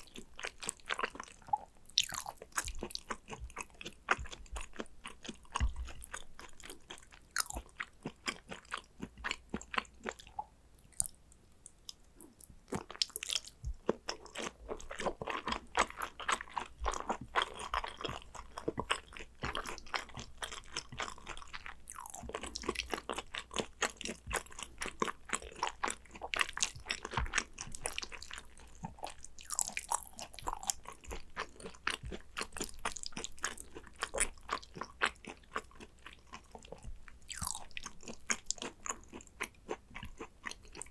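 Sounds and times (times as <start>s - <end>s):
person chewing with crunchy clicks: 0.0s - 40.9s.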